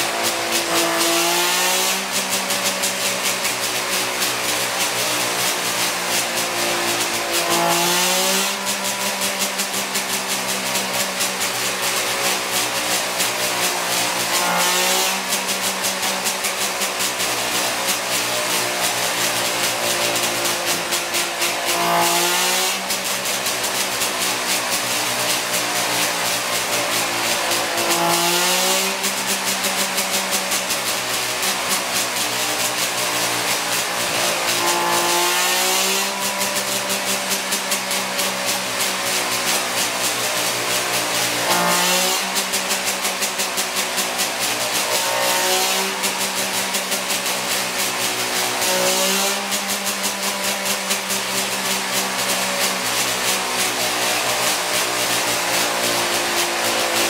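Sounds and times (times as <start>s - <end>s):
two-stroke race engine revving: 0.0s - 57.0s.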